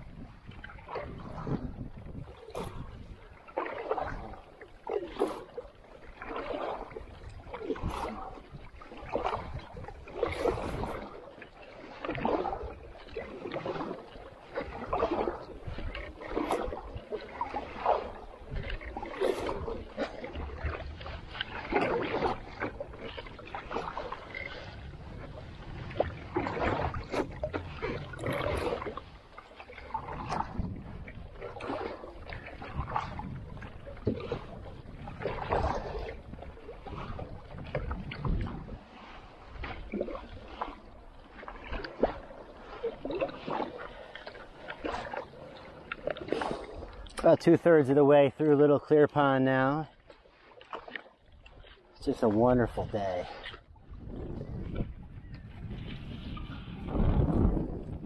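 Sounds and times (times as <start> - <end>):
canoe paddle splashing water: 0.0 - 58.0.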